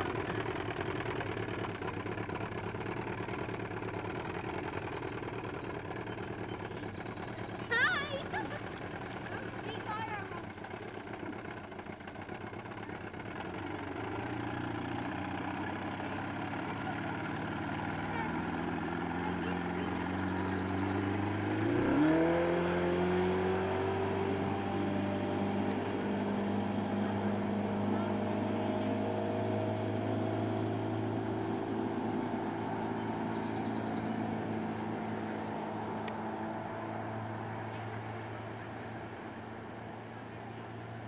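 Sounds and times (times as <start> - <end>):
motorboat engine running: 0.0 - 41.0.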